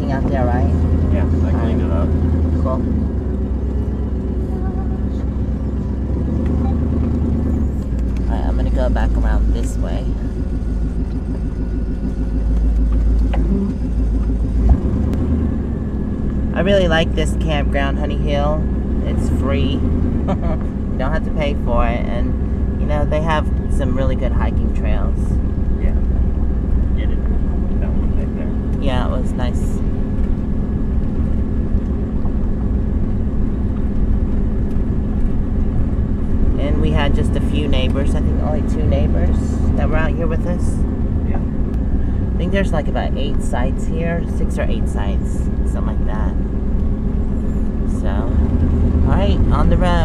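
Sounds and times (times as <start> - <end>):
engine and road rumble: 0.0 - 50.0.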